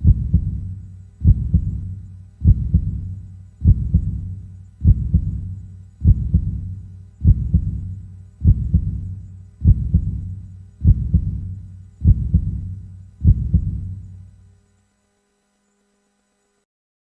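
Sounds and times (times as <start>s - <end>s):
heartbeat thumps: 0.0s - 14.1s.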